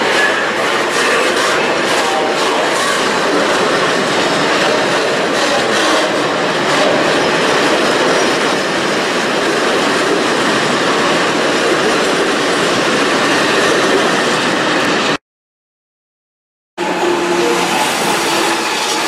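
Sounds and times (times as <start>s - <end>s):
freight train rolling past: 0.0s - 15.2s, 16.8s - 19.0s.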